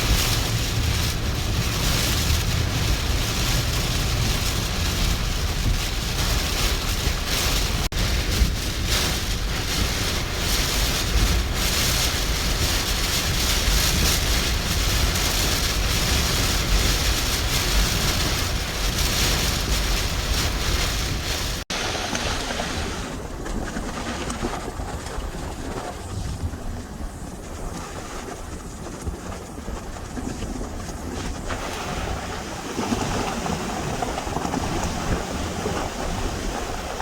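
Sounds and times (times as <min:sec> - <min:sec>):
surf surging against seawall: 0:00.0 - 0:37.0
wind blasting microphone: 0:00.0 - 0:37.0.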